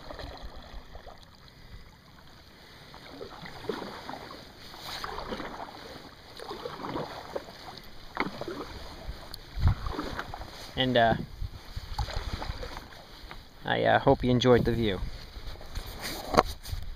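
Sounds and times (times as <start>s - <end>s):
paddle splashing in water: 0.0s - 13.6s.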